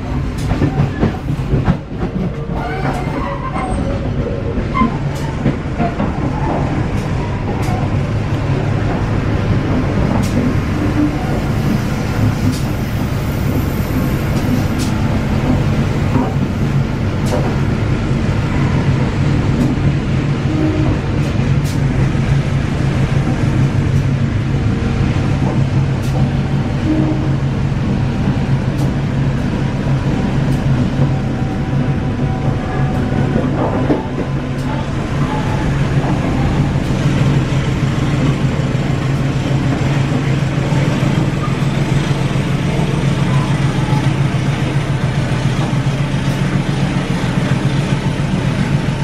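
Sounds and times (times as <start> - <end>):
train running gear rumble: 0.0 - 49.0.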